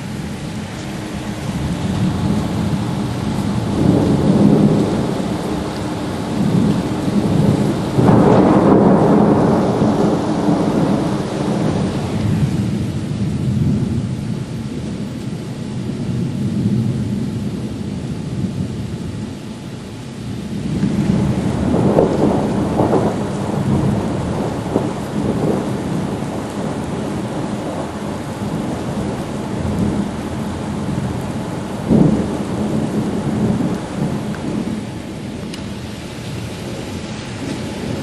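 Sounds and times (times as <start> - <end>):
rolling thunder: 0.0 - 19.2, 20.4 - 38.0
heavy rain: 0.0 - 38.0.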